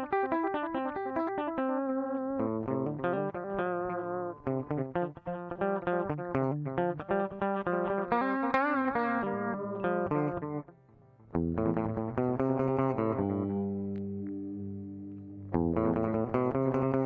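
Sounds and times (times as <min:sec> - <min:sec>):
electric guitar with delay: 0:00.0 - 0:17.0.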